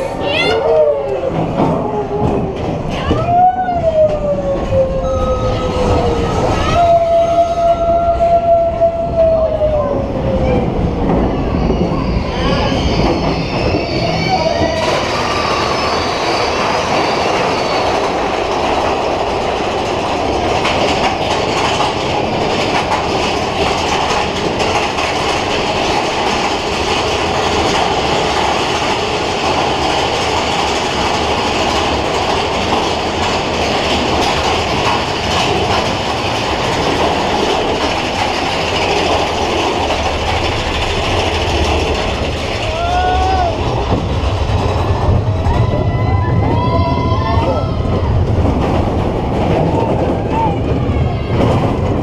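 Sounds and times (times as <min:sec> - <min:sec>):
roller coaster wheels on rails: 0:00.0 - 0:52.0.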